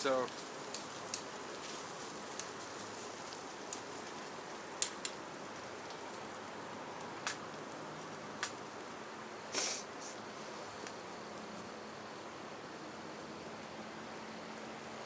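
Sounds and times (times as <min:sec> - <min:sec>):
fire crackling pops: 0:00.0 - 0:13.7
fire hissing: 0:00.0 - 0:15.0.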